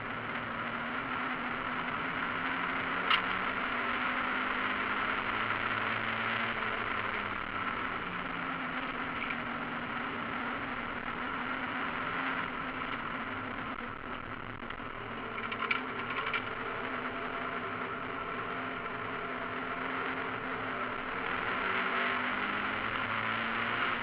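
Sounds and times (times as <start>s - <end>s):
race car engine from cockpit: 0.0s - 24.0s.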